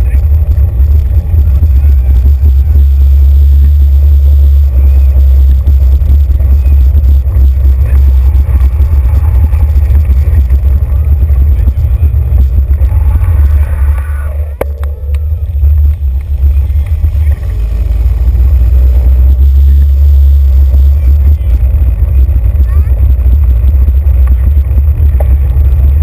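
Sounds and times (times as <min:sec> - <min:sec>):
bicycle rumbling over paving: 0:00.0 - 0:26.0.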